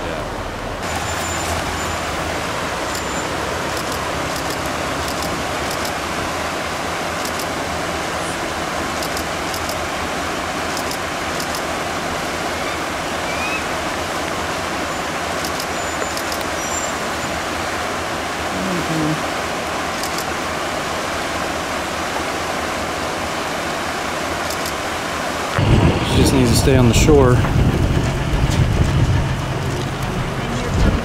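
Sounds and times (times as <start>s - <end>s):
river rushing over rapids: 0.0s - 31.0s.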